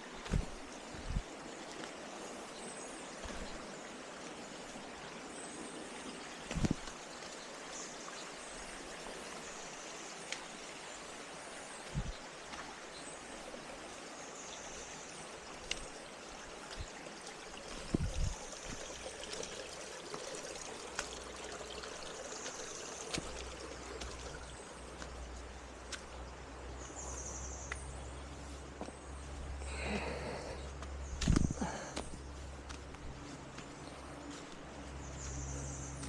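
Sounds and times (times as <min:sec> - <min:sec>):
stream running over rocks: 0:00.0 - 0:36.0.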